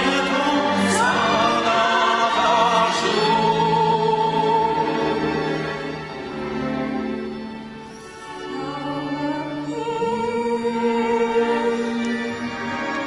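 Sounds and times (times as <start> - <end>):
string orchestra: 0.0 - 13.0.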